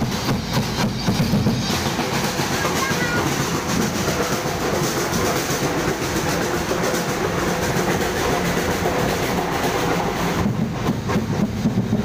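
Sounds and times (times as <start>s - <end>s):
crowd of people: 0.0s - 12.0s.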